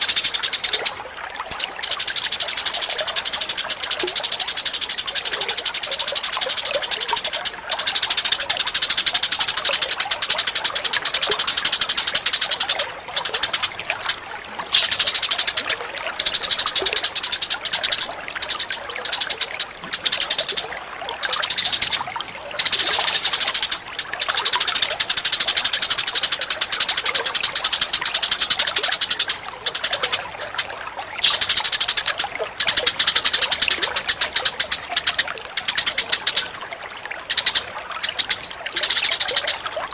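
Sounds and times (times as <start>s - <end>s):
songbird chattering: 0.0s - 36.6s, 37.3s - 39.6s.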